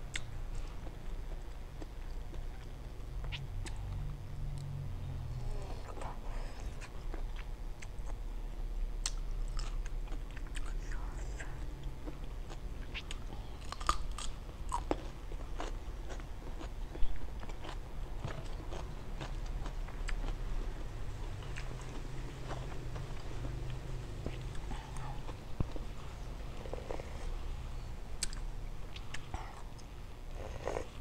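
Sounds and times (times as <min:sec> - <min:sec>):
low steady hum: 0:00.0 - 0:31.0
person chewing with wet crunches: 0:00.1 - 0:04.8, 0:05.4 - 0:31.0.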